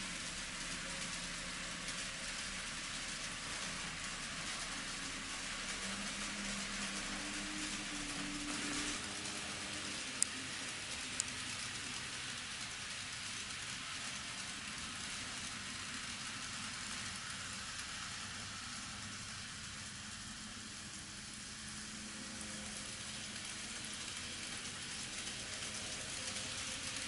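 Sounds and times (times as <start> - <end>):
model train motor whir: 0.0 - 27.0
rolling wheel noise: 0.1 - 27.0.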